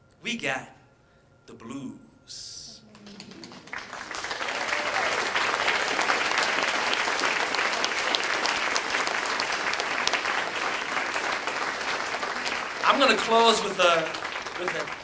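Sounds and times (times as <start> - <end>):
audience applauding: 2.9 - 15.0.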